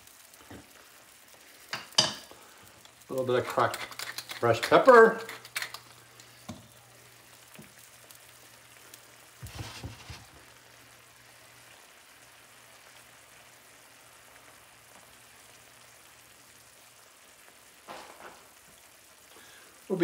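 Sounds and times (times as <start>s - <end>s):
sauce simmering in a frying pan: 0.0s - 20.0s.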